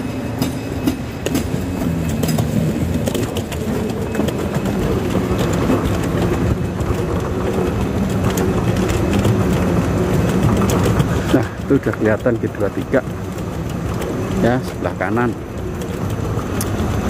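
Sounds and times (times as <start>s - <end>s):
moving belt clicking and clacking: 0.0s - 17.0s
moving walkway hum: 0.0s - 17.0s.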